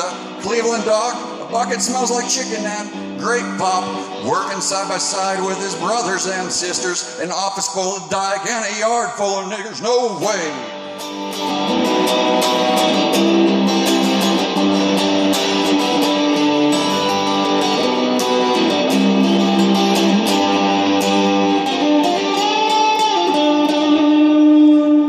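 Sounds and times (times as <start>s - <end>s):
electric guitar playing: 0.0s - 25.0s.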